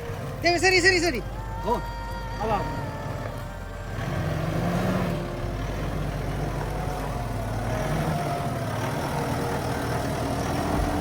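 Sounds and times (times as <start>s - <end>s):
vehicle engine at low revs: 0.0s - 11.0s.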